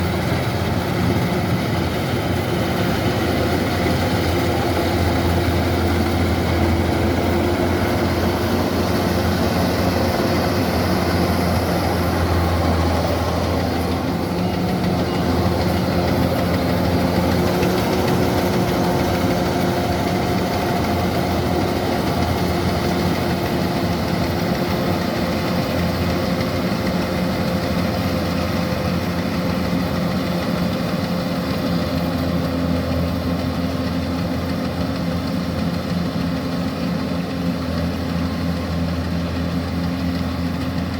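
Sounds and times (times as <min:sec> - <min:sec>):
harvester engine droning: 0:00.0 - 0:40.9.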